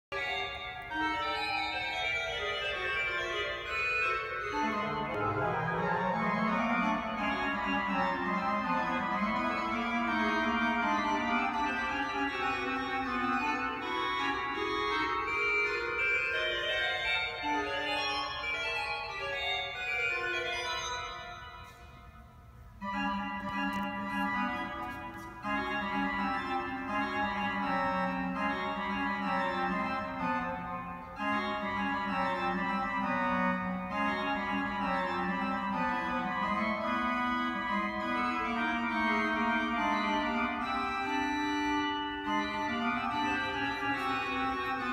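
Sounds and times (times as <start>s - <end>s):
pipe organ playing chords: 0.1s - 44.9s.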